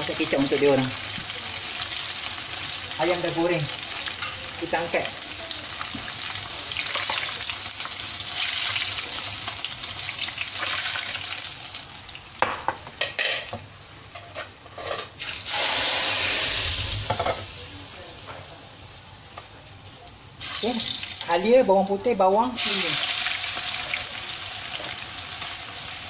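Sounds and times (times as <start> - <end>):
oil sizzling in a wok: 0.0 - 26.0.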